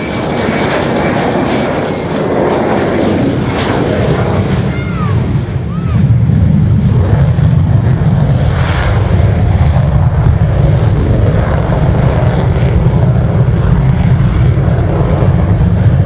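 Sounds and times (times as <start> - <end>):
fighter jet engine rumble: 0.0 - 16.0.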